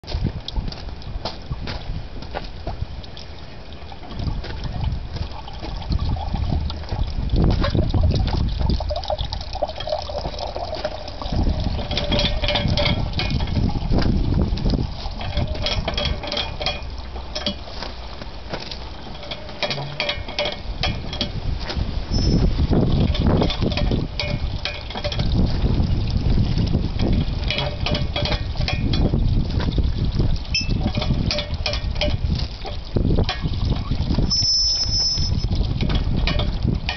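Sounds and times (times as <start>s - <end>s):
juice trickling from press: 0.1s - 36.9s.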